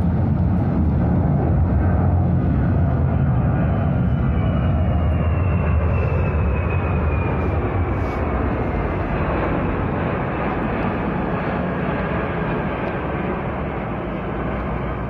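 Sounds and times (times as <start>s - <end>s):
jet aircraft flying over: 0.0s - 15.0s.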